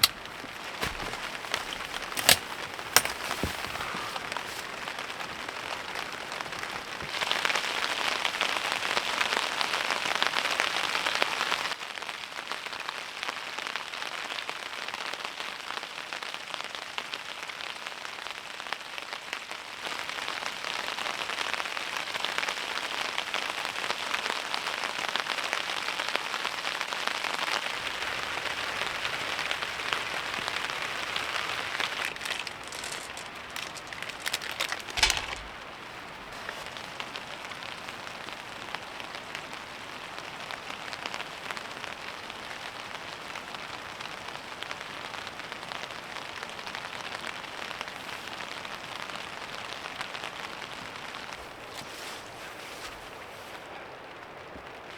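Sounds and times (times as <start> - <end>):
heavy rain pattering: 0.0 - 54.9.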